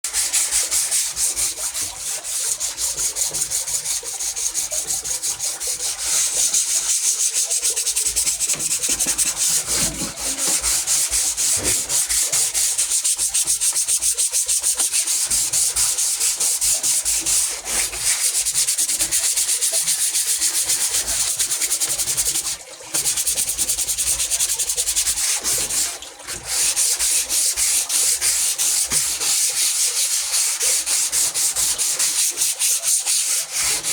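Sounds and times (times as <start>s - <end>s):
sandpaper rubbing on wood: 0.0s - 22.3s, 23.3s - 33.9s.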